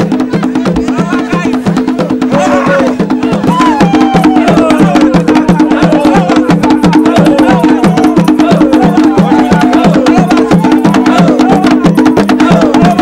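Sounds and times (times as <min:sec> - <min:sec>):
drums beating fast rhythm: 0:00.0 - 0:13.0
voices singing: 0:00.2 - 0:13.0.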